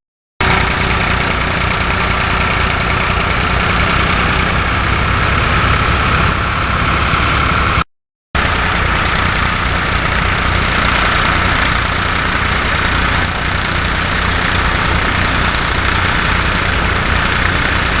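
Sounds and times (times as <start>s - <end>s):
tractor engine running: 0.4s - 7.8s, 8.4s - 18.0s.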